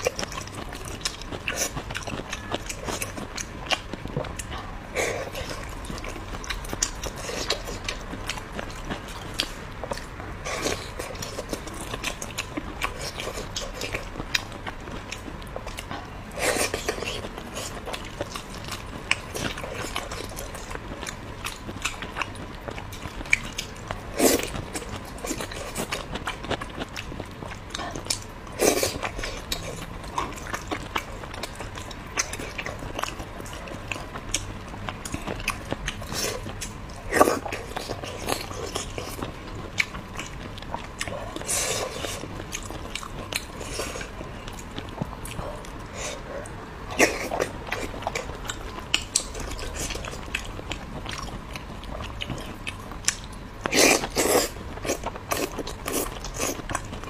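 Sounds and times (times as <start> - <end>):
person chewing with wet mouth clicks: 0.0 - 57.0.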